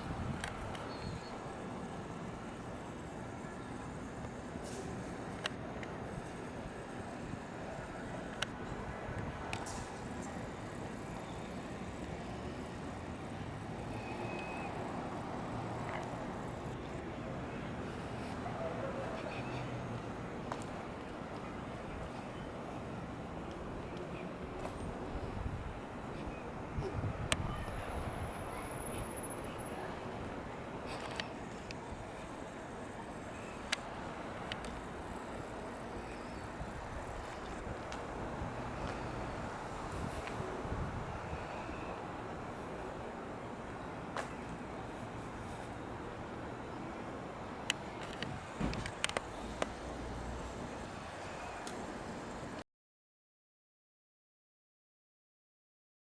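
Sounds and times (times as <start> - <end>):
road traffic rumble: 0.0 - 52.6.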